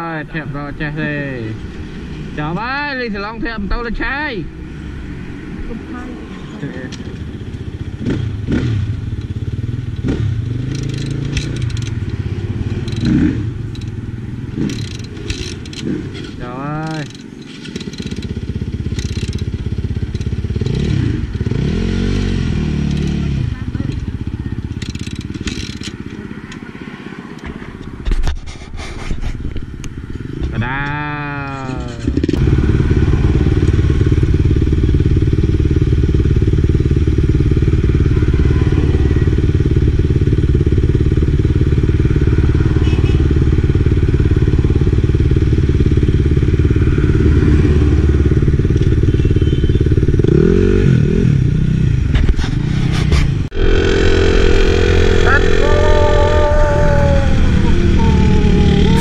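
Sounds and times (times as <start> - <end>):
motorcycle engine revving: 0.0 - 28.1, 29.4 - 59.0.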